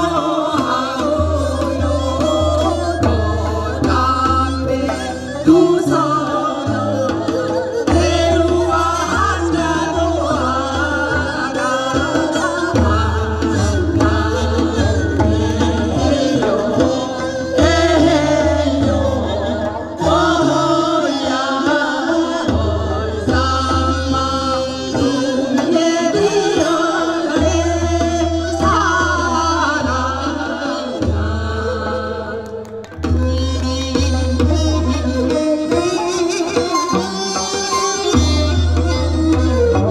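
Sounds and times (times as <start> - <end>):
instrumental accompaniment: 0.0 - 39.9
steady drum beat: 0.0 - 39.9
women singing folk song: 0.0 - 39.9.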